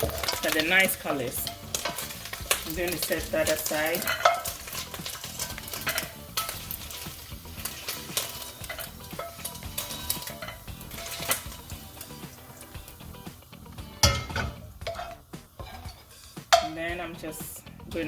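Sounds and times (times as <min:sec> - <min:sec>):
metal utensil scraping pan: 0:00.0 - 0:17.4
sausage sizzling in frying pan: 0:00.0 - 0:18.0.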